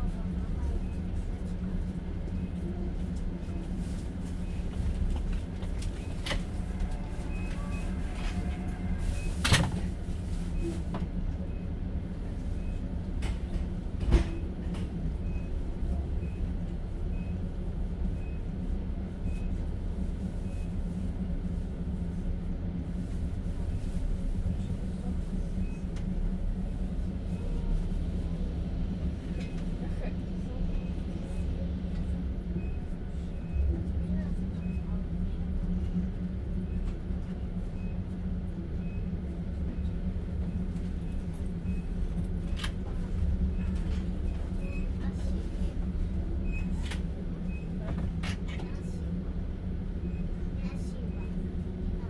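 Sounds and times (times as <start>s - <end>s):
train rumble: 0.0s - 52.0s.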